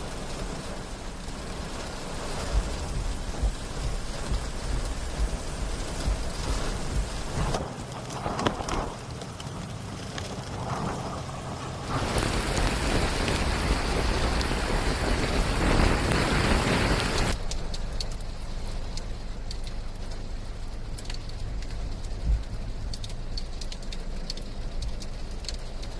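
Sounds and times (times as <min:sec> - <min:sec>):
heavy rain hissing: 0:00.0 - 0:25.9
light rain drops ticking: 0:00.0 - 0:25.9.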